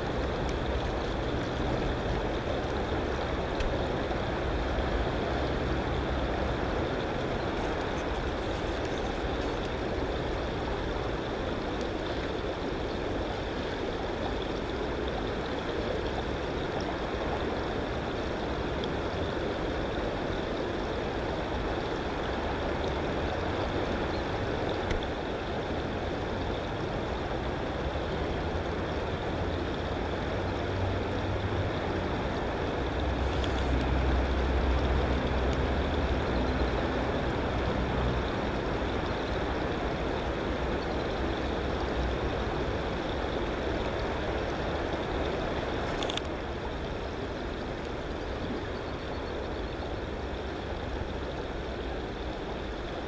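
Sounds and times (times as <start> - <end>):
rushing noise with low rumble: 0.0 - 53.0.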